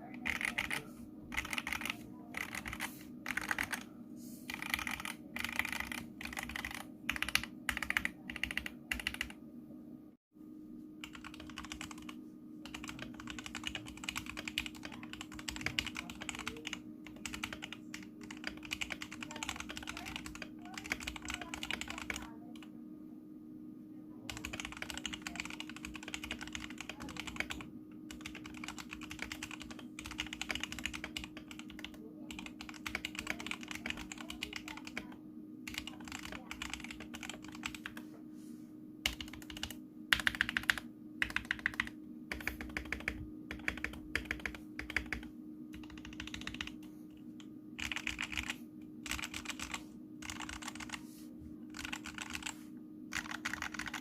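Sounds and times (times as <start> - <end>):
faint steady hum: 0.0 - 54.0
typing on mechanical keyboard: 0.1 - 3.9, 4.5 - 9.4, 11.0 - 22.7, 24.3 - 38.0, 39.0 - 46.9, 47.8 - 51.0, 51.7 - 54.0.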